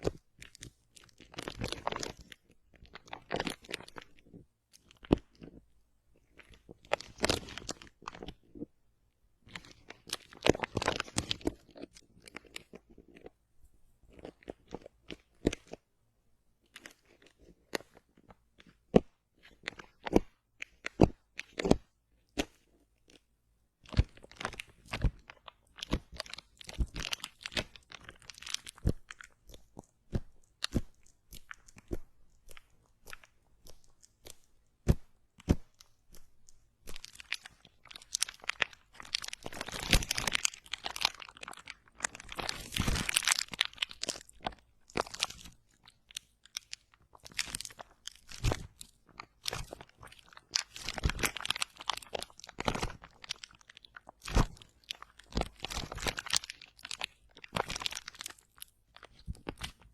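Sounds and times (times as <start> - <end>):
close crunching and crackling: 0.0 - 8.7, 9.4 - 13.4, 14.0 - 15.8, 16.6 - 23.2, 23.8 - 59.9.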